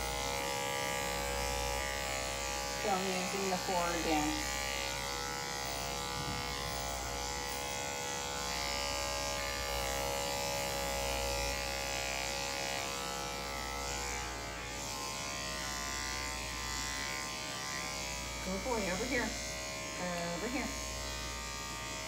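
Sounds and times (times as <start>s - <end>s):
electric clipper buzzing: 0.0s - 22.0s.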